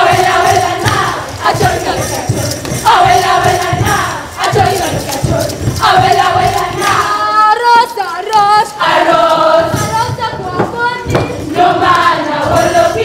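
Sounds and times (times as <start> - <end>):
group chanting a traditional song: 0.0 - 13.0
low rhythmic beats: 0.0 - 13.0.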